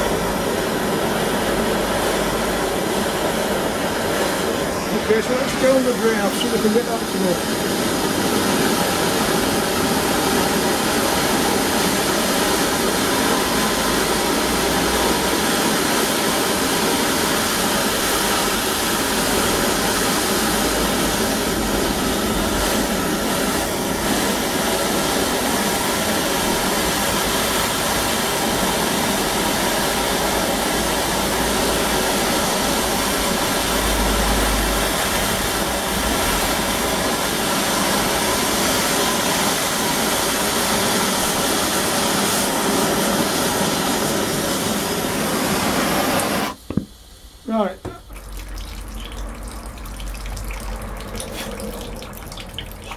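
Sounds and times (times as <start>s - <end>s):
blowtorch hissing: 0.0s - 49.9s, 51.1s - 52.9s.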